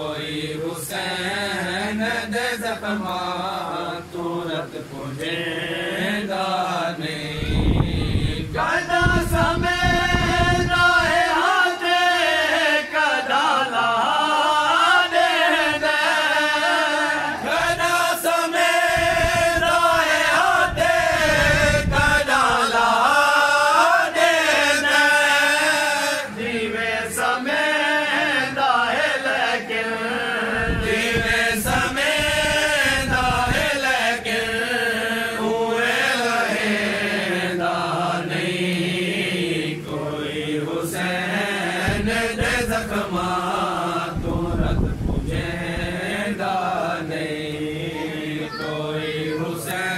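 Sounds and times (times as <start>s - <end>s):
man chanting unaccompanied: 0.0s - 49.9s.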